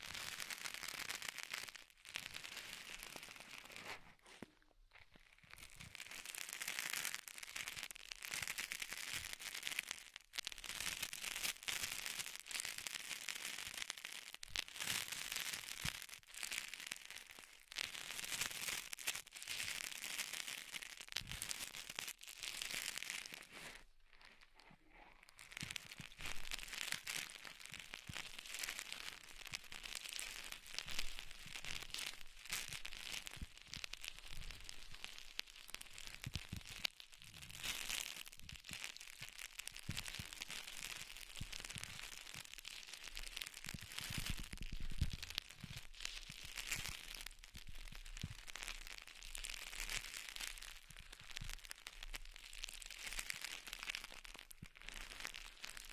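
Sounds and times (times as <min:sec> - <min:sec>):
crinkling and crackling: 0:00.0 - 0:55.9.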